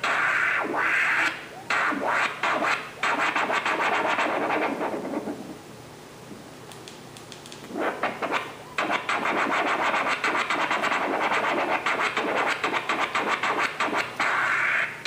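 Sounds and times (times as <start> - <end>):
vinyl record scratching: 0.0 - 5.7, 7.7 - 15.0.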